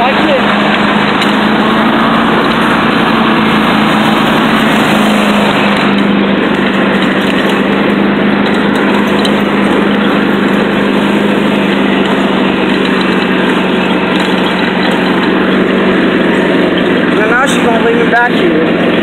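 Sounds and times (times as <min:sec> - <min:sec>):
riding lawn mower engine: 0:00.0 - 0:19.0.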